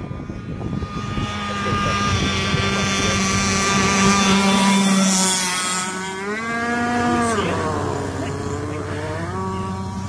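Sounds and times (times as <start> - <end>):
model boat engine buzzing: 0.0 - 10.0.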